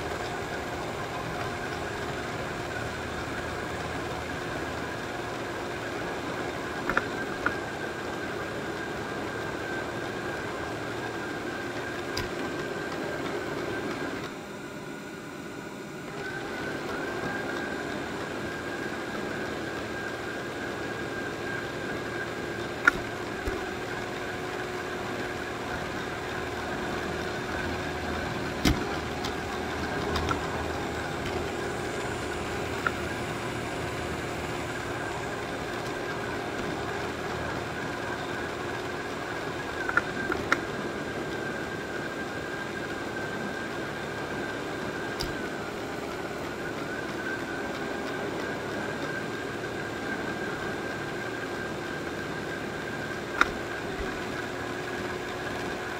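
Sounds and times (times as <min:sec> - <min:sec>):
robot vacuum motor hum: 0:00.0 - 0:55.9.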